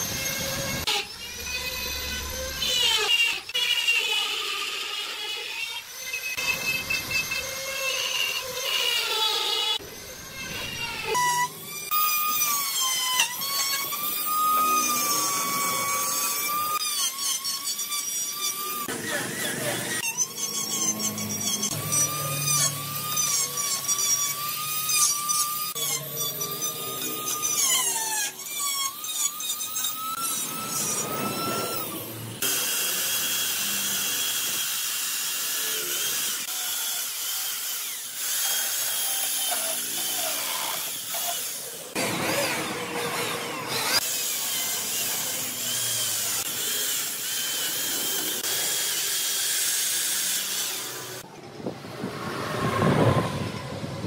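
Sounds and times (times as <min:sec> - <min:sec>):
angle grinder carving wood: 0:00.0 - 0:54.0
electric chainsaw cutting wood: 0:00.0 - 0:54.0.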